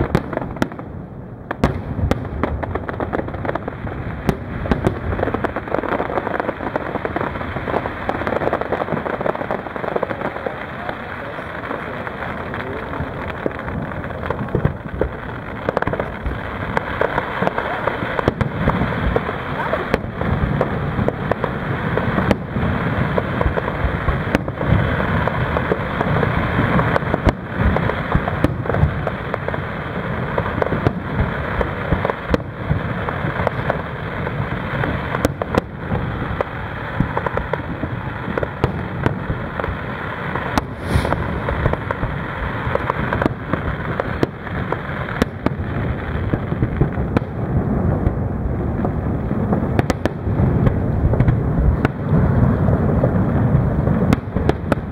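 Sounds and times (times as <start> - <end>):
fireworks booms and crackle: 0.0 - 54.9
sharp firework bangs: 0.0 - 54.9.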